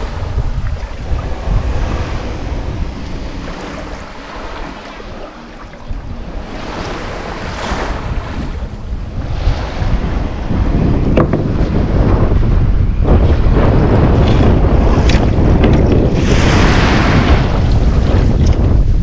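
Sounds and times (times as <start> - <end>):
sea waves: 0.0 - 19.0
wind buffeting microphone: 0.0 - 19.0.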